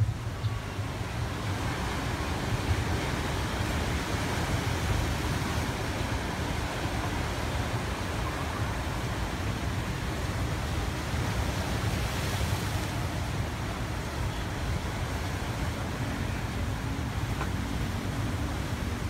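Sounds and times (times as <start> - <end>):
surf breaking on rocky shore: 0.0 - 19.0.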